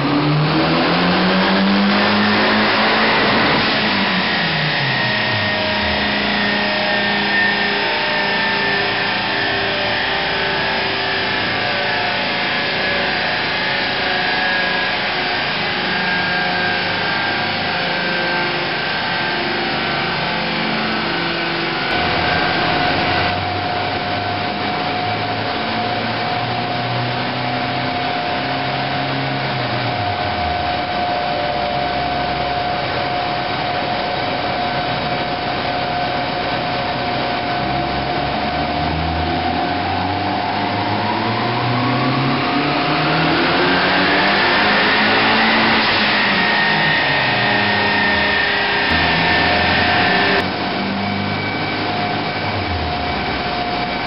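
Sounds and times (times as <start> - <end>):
car engine on dyno: 0.0 - 54.0
steady whine: 0.0 - 54.0.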